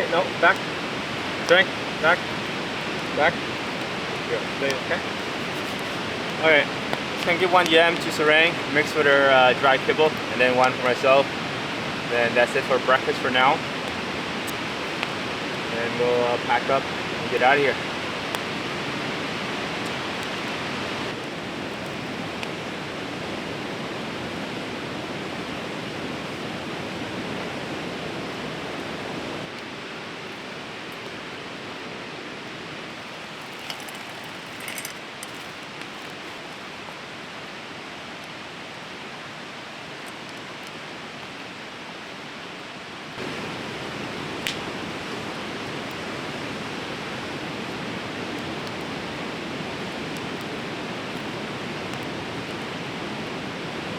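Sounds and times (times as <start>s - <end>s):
fast-flowing river rushing: 0.0s - 53.9s.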